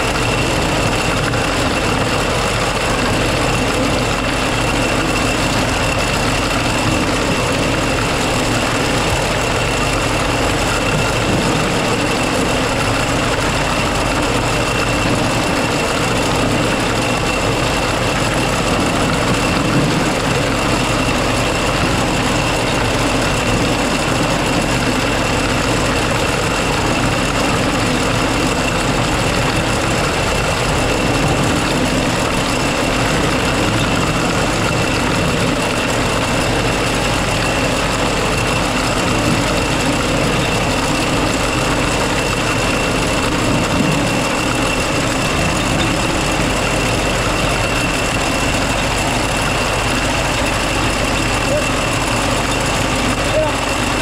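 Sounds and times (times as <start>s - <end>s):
harvest machinery engine running: 0.0s - 54.0s.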